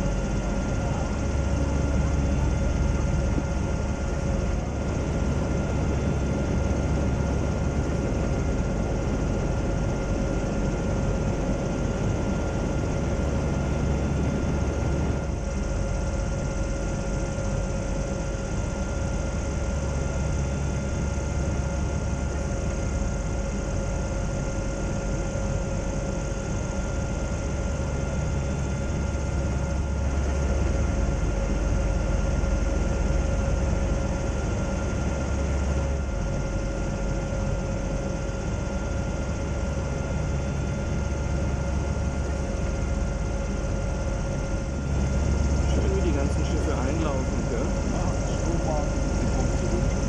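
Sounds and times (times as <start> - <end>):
low engine hum: 0.0 - 24.0, 25.6 - 50.0
steady whining tones: 0.0 - 50.0.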